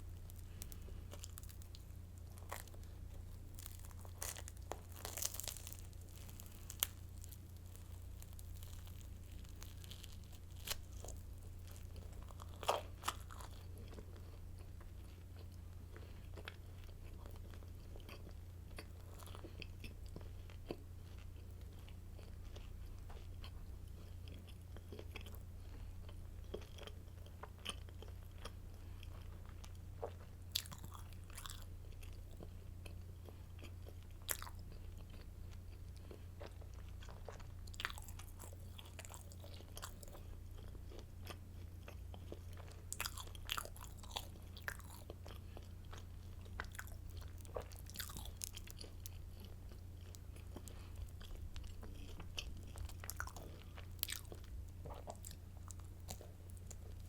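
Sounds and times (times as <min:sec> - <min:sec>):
chewing crunchy bread: 0:00.0 - 0:57.0
steady low hum: 0:00.0 - 0:57.0.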